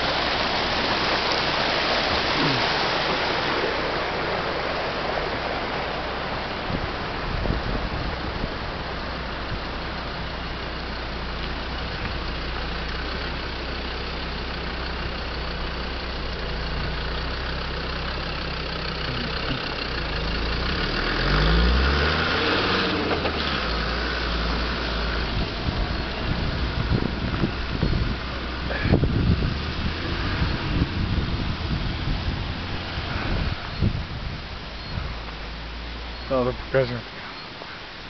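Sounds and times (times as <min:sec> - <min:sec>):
car engine revving: 0:00.0 - 0:37.2.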